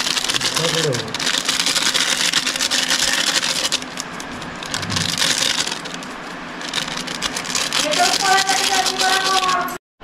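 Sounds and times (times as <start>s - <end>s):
plastic packet crinkling: 0.0s - 9.6s.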